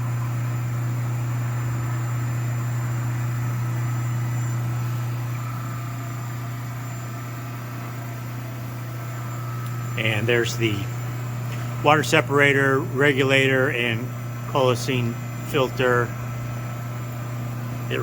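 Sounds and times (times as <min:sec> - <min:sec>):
phase converter electric hum: 0:00.0 - 0:18.0.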